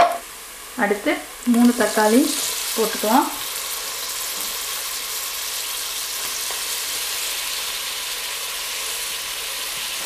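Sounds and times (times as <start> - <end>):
tomatoes sizzling in hot oil: 0.0 - 10.0.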